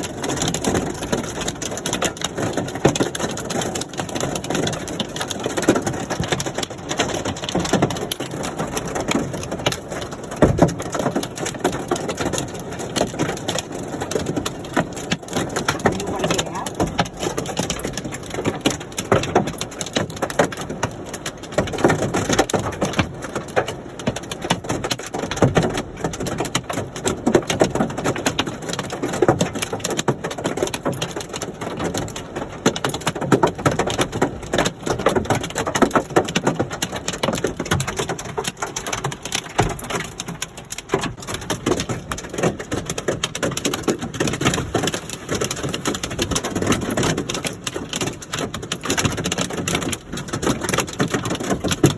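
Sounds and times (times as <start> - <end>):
hail on a hard surface: 0.0 - 51.9.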